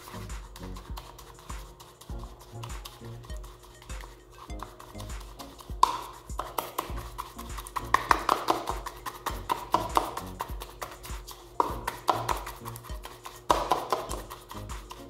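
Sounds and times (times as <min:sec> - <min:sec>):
brush scraping plastic bowl: 0:00.0 - 0:15.0
soft background music: 0:00.0 - 0:15.0.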